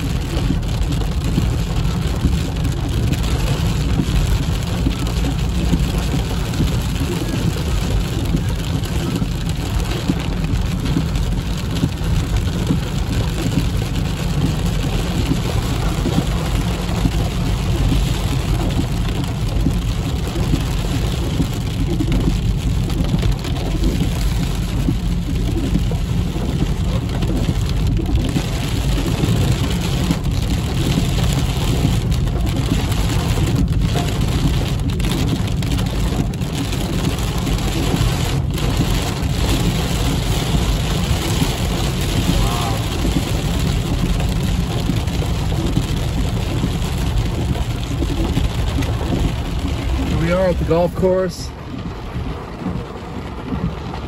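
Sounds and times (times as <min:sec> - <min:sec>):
heavy rain drumming on a car: 0:00.0 - 0:54.0
low rumble of a car: 0:00.0 - 0:54.0.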